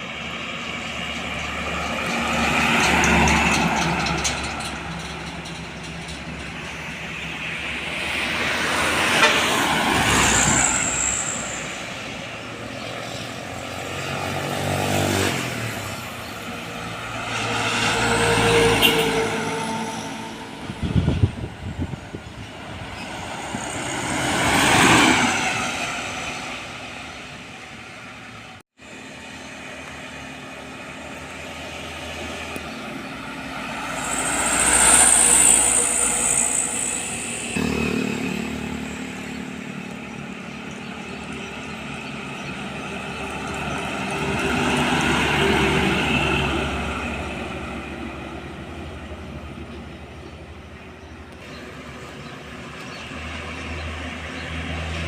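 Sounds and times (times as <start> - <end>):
diesel trucks passing by: 0.0 - 55.0.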